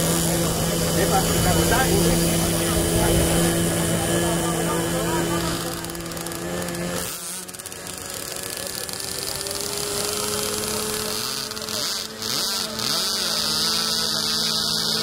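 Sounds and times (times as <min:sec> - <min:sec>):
model jet electric motor running: 0:00.0 - 0:15.0.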